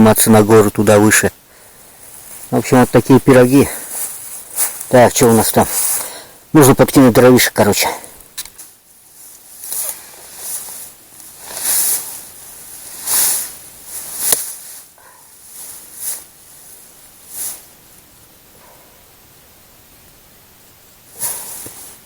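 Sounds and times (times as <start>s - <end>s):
firewood rustling: 0.6s - 7.0s, 7.6s - 22.0s.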